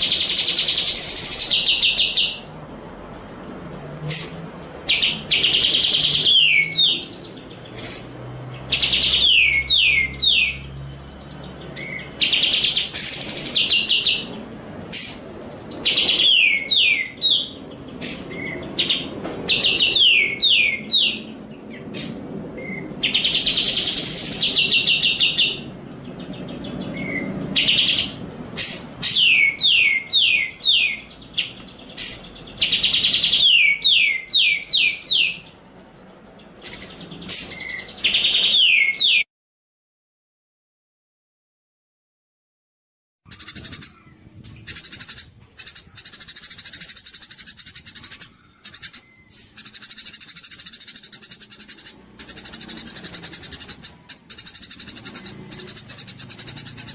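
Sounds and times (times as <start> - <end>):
sparrow song: 0.0 - 39.3, 43.3 - 56.9.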